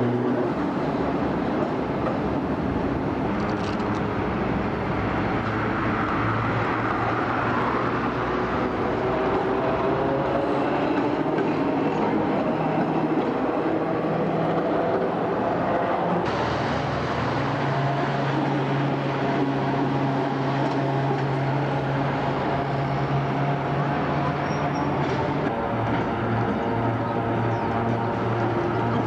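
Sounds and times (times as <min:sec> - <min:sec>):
electric trams humming: 0:00.0 - 0:29.0.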